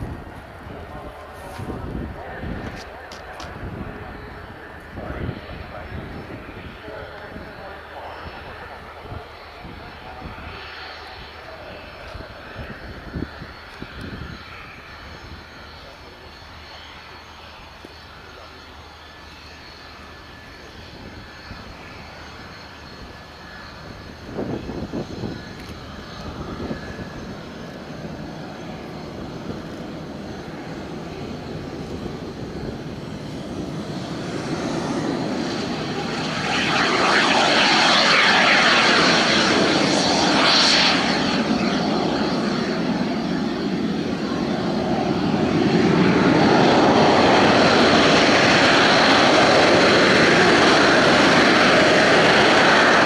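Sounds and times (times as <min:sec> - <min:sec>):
jet engine rushing: 0:00.0 - 0:53.0.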